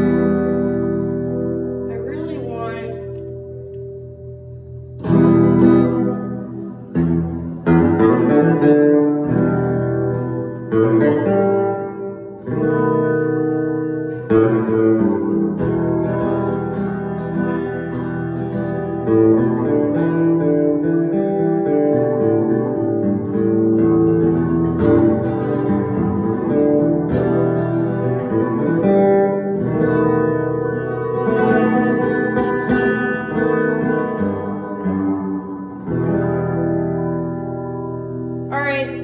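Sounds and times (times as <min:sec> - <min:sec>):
guitar strumming and picking: 0:00.0 - 0:39.0.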